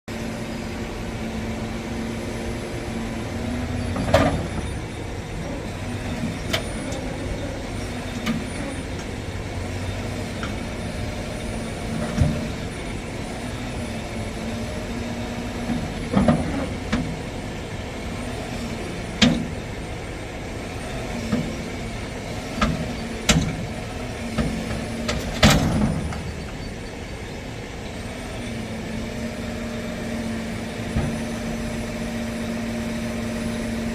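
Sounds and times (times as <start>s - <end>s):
large engine idling: 0.1s - 33.9s.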